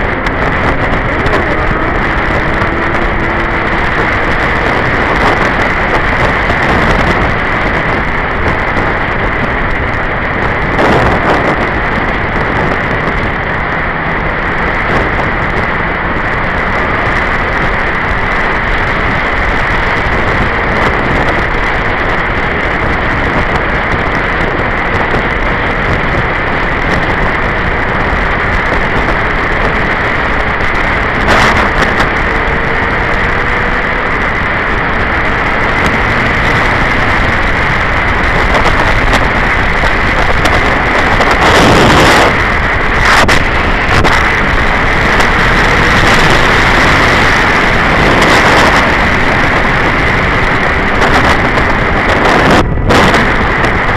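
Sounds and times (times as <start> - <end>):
motorcycle engine running: 0.0 - 53.9
wind rush over microphone: 0.0 - 53.9.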